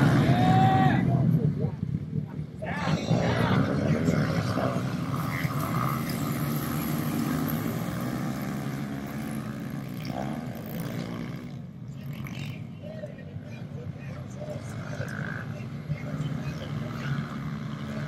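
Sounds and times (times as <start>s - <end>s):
pit bike engines droning: 0.0s - 18.0s.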